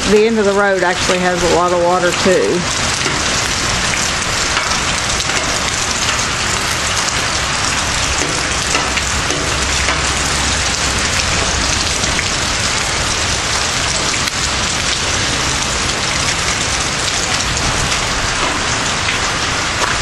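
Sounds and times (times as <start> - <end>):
torrential rain on pavement: 0.0 - 20.0.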